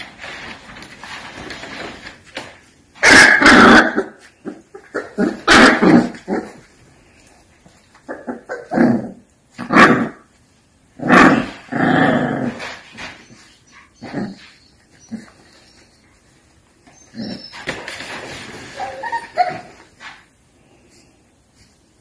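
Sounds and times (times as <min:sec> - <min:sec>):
puppies growling and barking: 0:00.0 - 0:15.8, 0:17.0 - 0:20.2.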